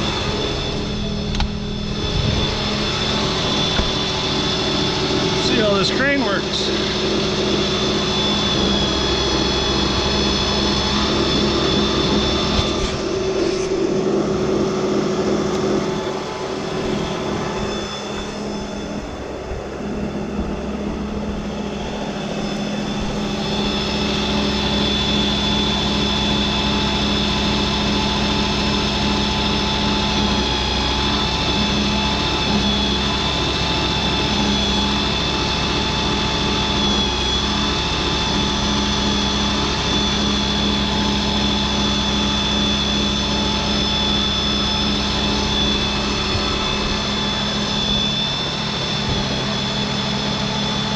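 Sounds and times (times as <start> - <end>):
pump motor humming and whining: 0.0 - 50.9.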